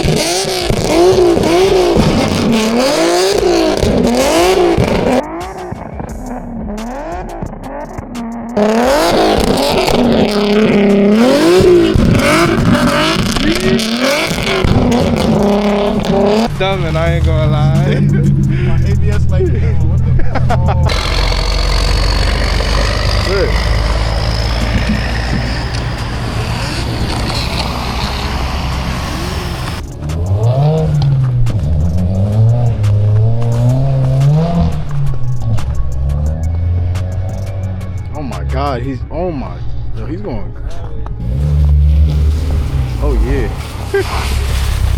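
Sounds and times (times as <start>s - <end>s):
car engine revving hard: 0.0s - 7.5s, 8.6s - 37.8s, 41.2s - 44.9s
road and wind noise: 0.0s - 44.9s.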